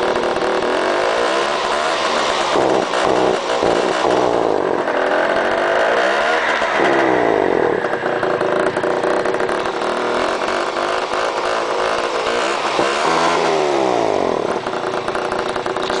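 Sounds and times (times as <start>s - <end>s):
scooter engine revving: 0.0s - 16.0s.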